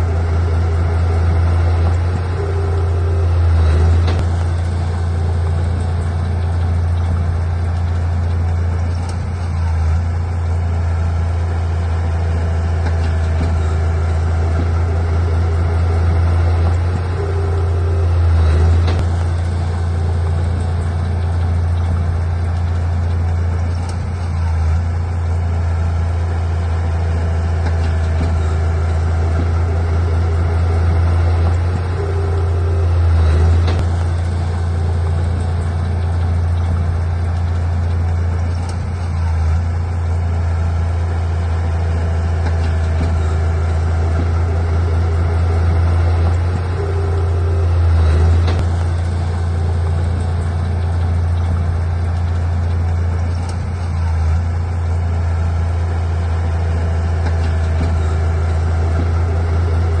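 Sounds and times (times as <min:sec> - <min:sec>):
heavy machinery diesel engine: 0:00.0 - 1:00.0.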